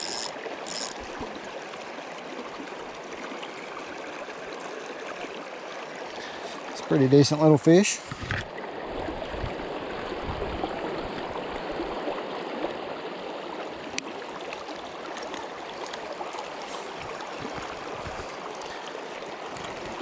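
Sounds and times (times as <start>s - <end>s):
river current rushing: 0.0s - 20.0s.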